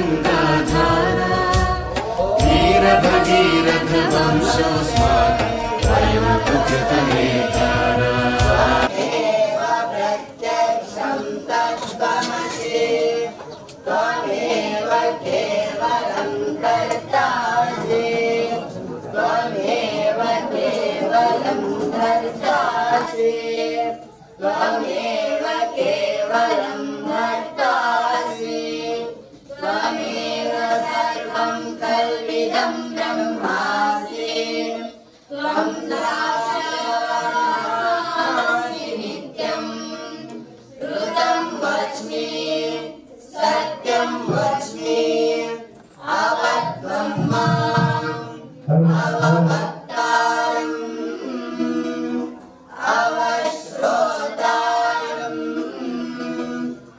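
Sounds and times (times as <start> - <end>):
young men singing a hymn: 0.0 - 56.9.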